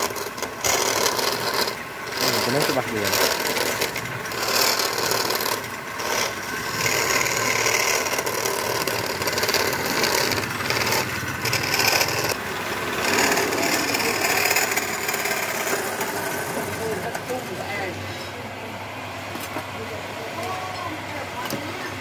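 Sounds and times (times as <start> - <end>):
chisel scraping wood on lathe: 0.0 - 18.4
lathe running: 0.0 - 22.0.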